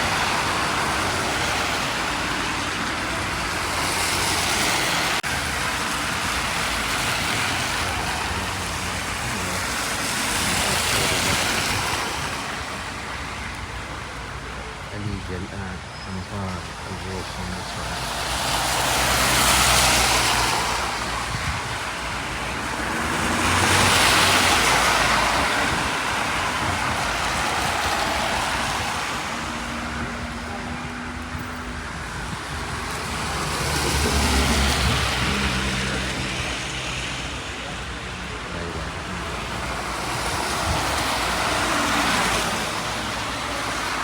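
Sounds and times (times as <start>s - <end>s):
road vehicles passing: 0.0s - 44.0s.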